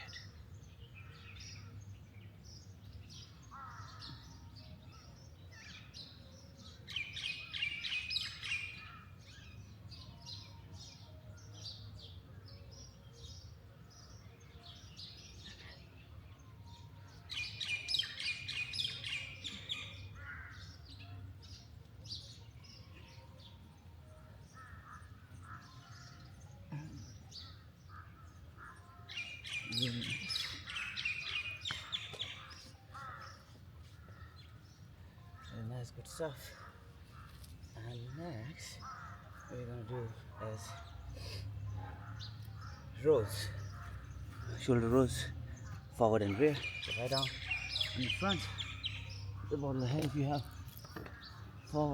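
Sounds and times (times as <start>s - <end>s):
rapid trilling birdsong: 0.0s - 51.9s
wild birds chirping and singing: 0.0s - 51.9s.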